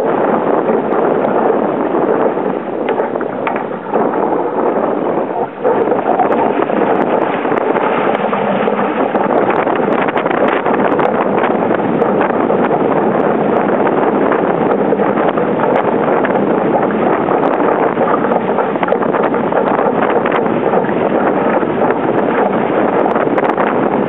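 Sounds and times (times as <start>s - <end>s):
water rushing past hull: 0.0s - 24.0s
water splashes: 0.0s - 24.0s
wind buffeting microphone: 0.0s - 24.0s.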